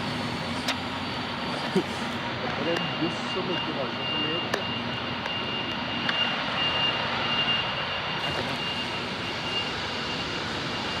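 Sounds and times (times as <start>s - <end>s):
bus running: 0.0s - 11.0s
high-pitched whine: 0.0s - 11.0s.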